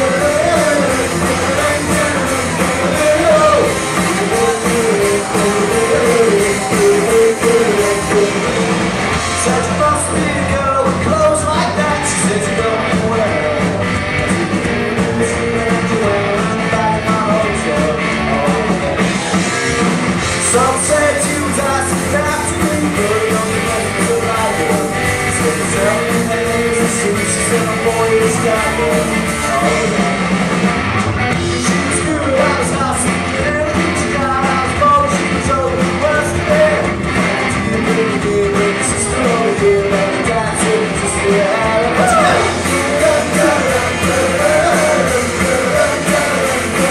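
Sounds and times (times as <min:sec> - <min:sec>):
person singing: 0:00.0 - 0:19.1, 0:20.4 - 0:30.3, 0:31.5 - 0:46.9
bass guitar: 0:00.0 - 0:46.9
drums with crashing cymbals: 0:00.0 - 0:46.9
electric guitar: 0:00.0 - 0:46.9
live rock band playing loud: 0:00.0 - 0:46.9.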